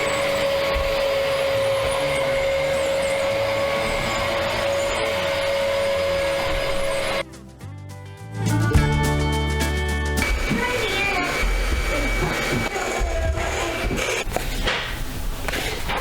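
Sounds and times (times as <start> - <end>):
vacuum cleaner running: 0.0 - 7.2, 10.2 - 16.0.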